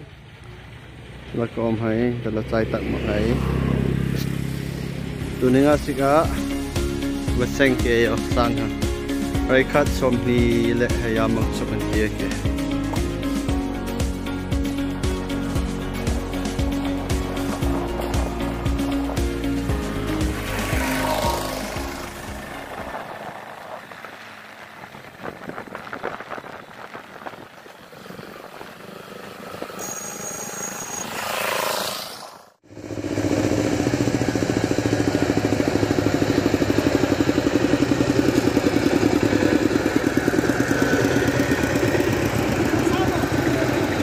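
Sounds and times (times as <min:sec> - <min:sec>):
motor engine running: 0:00.0 - 0:44.0.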